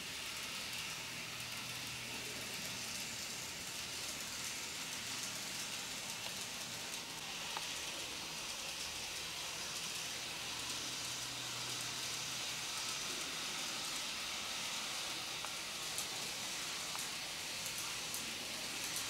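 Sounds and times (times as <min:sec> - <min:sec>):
model train wheels hissing on rail: 0:00.0 - 0:19.0.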